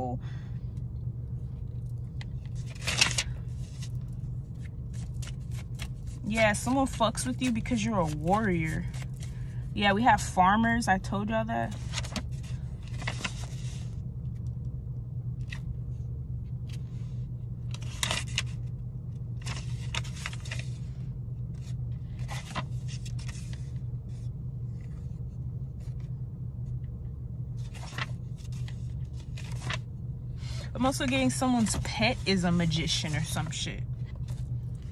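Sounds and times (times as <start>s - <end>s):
car engine hum: 0.0s - 34.9s.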